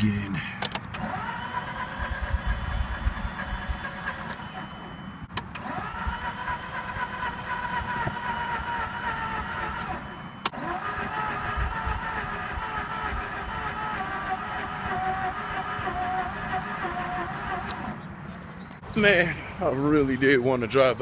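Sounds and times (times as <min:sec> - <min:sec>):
starter motor cranking engine: 0:00.6 - 0:18.0.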